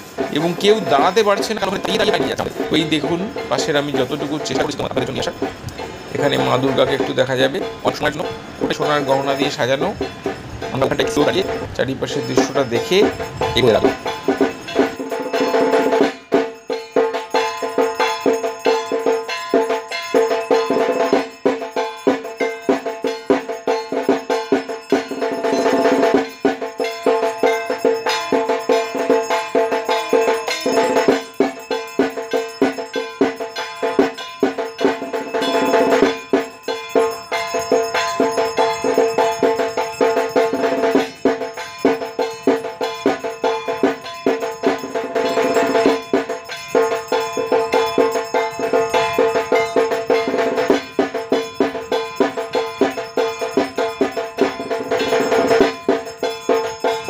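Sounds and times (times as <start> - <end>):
music with fast percussion: 0.0 - 57.0.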